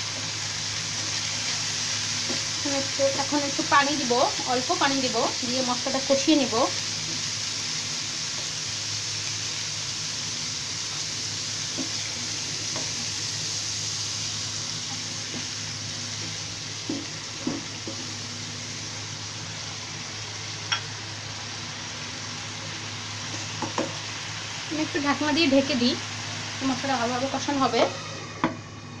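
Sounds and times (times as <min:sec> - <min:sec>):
masala sizzling in oil: 0:00.0 - 0:29.0.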